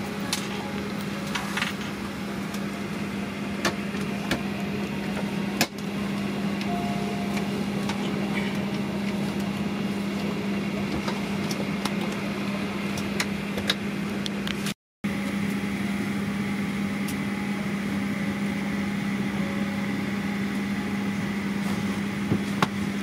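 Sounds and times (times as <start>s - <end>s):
low steady drone: 0.0s - 13.0s, 15.1s - 21.4s
air-conditioning rushing: 0.0s - 23.0s.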